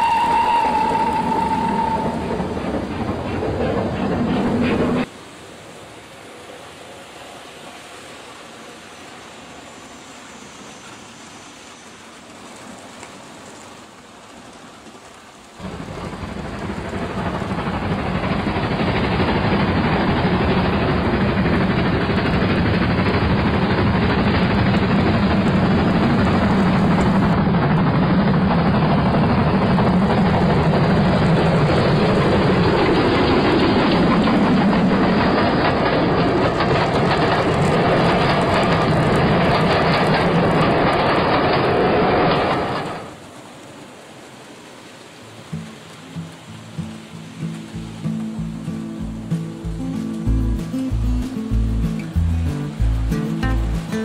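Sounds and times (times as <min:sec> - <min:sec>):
model train wheels and motor rumbling: 0:00.0 - 0:43.3.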